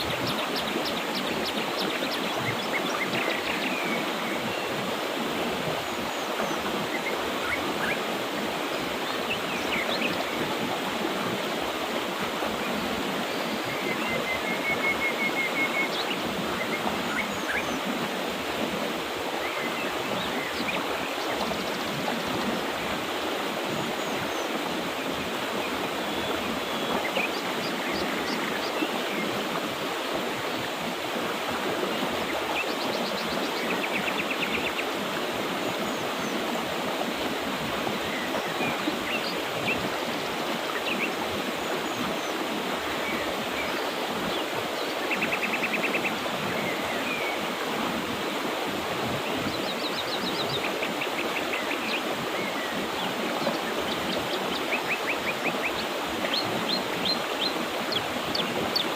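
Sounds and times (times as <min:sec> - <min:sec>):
river rushing over rocks: 0:00.0 - 0:58.9.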